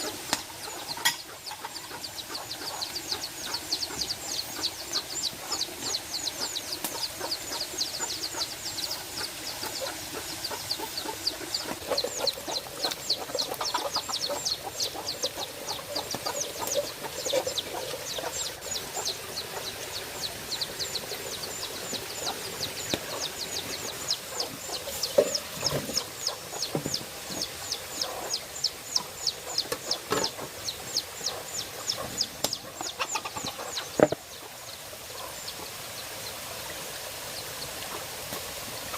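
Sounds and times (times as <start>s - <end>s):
chicks peeping: 0.0s - 36.4s
chickens clucking: 0.0s - 38.9s.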